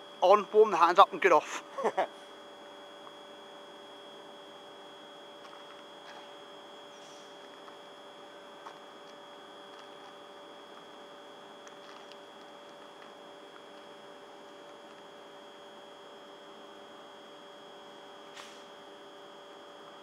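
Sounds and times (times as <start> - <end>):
electrical hum with high whine: 0.0 - 20.0.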